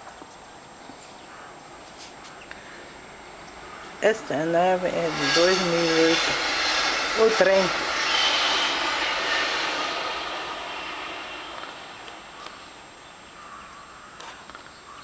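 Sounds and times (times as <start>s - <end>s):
train passing: 0.5s - 14.0s.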